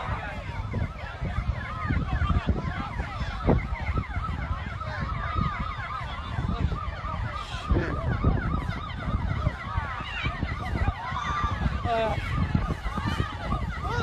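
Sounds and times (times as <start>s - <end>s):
emergency sirens wailing: 0.0s - 14.0s
wind rumble on microphone: 0.0s - 14.0s.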